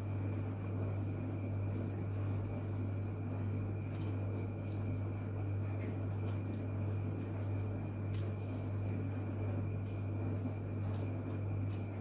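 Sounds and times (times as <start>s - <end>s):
knife peeling plant leaf: 0.0s - 12.0s
steady low hum: 0.0s - 12.0s.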